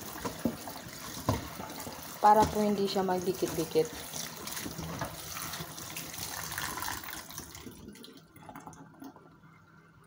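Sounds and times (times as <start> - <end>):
tap water running into colander: 0.0 - 9.2.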